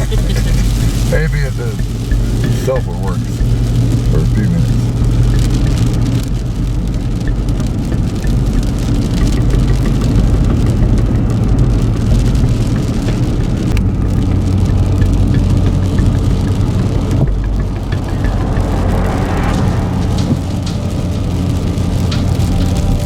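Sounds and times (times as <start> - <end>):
engine and tyre hum: 0.0 - 23.0
snow ticking on car: 0.0 - 23.0.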